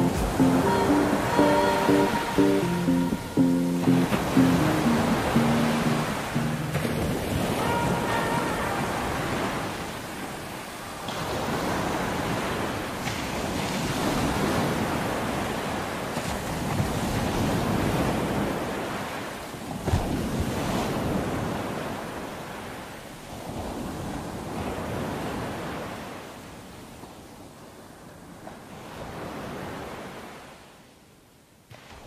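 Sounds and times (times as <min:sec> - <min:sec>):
surf washing in: 0:00.0 - 0:26.5.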